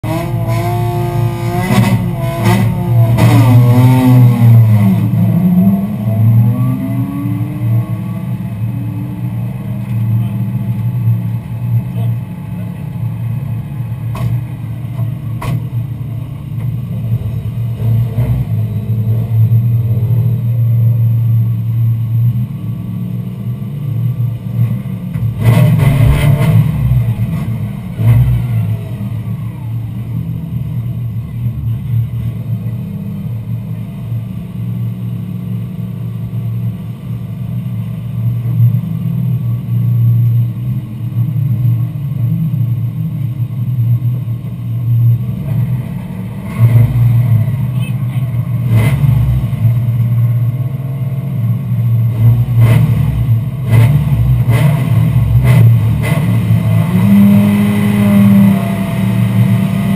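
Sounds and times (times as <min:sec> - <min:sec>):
race car engine idling and revving: 0:00.0 - 0:59.9.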